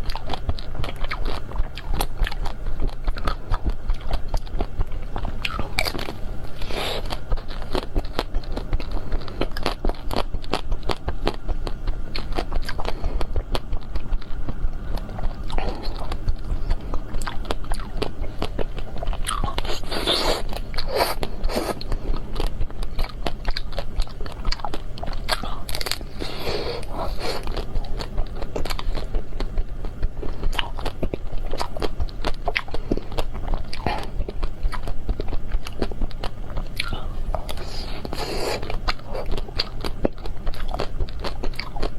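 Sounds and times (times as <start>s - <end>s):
crunchy ice cream chewing: 0.0s - 41.9s.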